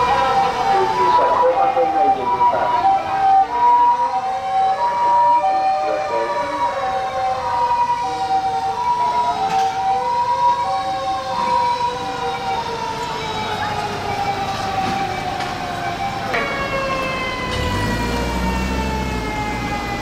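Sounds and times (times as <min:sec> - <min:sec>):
fire engine wail sirens: 0:00.0 - 0:20.0
two-tone ambulance siren: 0:00.0 - 0:20.0.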